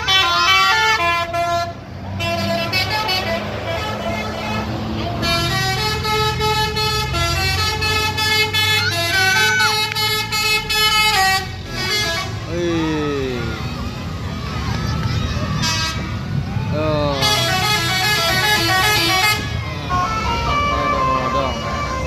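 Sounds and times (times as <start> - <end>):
bus horn playing melody: 0.0 - 12.5, 15.6 - 16.1, 17.2 - 22.0
bus engine running: 0.0 - 22.0.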